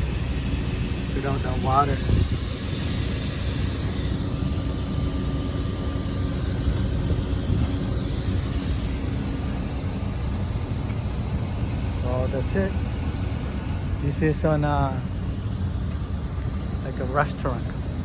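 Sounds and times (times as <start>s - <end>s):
condenser fans rushing air: 0.0s - 18.0s.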